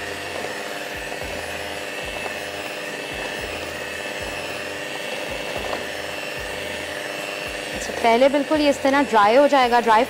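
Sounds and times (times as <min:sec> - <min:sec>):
electric beater running: 0:00.0 - 0:10.0.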